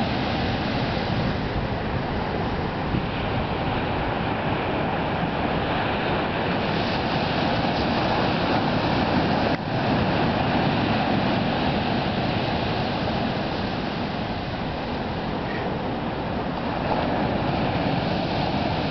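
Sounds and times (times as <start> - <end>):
ocean surf breaking: 0.0 - 18.9
wind on microphone: 0.0 - 18.9.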